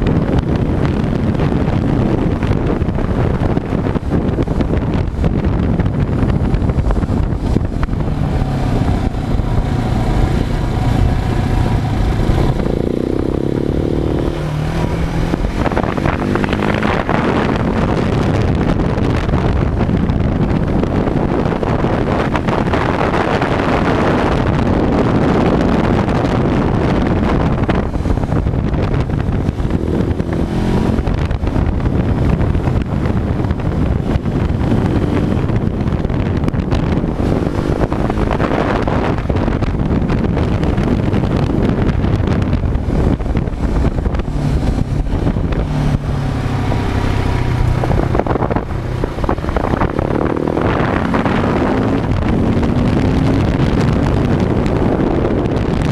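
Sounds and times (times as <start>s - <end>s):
motorcycle engine running: 0.0s - 55.9s
wind buffeting microphone: 0.0s - 55.9s.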